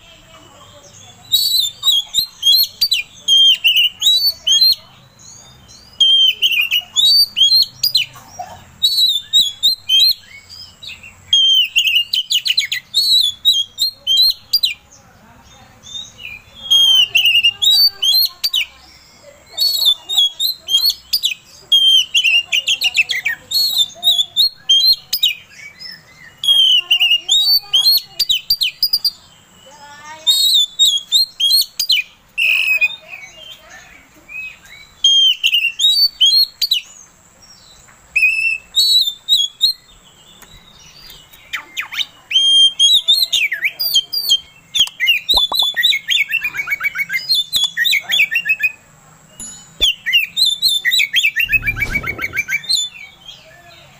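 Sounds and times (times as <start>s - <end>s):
songbird whistling and chattering: 0.8s - 14.8s, 15.8s - 53.9s.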